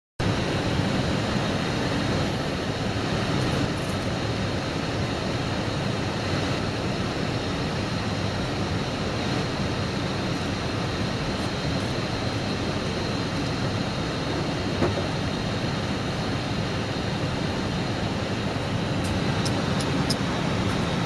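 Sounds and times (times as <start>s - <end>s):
aircraft cockpit airflow and engines: 0.2s - 21.0s
faint high whine: 0.2s - 21.0s.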